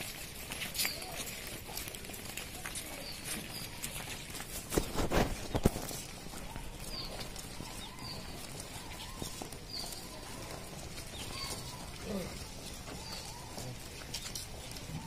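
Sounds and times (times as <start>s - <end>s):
footsteps on a street: 0.0s - 15.0s.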